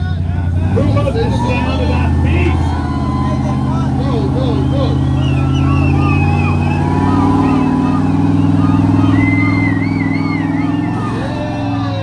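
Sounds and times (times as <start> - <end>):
engines running hard under load: 0.0 - 12.0
faint voices calling out: 0.0 - 12.0.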